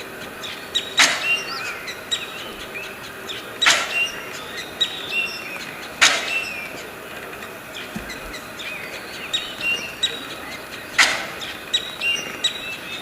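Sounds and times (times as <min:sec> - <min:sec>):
harsh rasping bird calls: 0:00.0 - 0:13.0
small birds chirping: 0:00.0 - 0:13.0.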